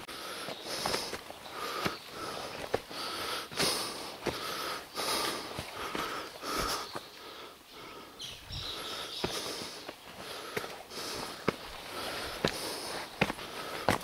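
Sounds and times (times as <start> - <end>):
person breathing hard: 0.0 - 14.0
footsteps on rocky ground: 0.2 - 7.1, 8.5 - 14.0.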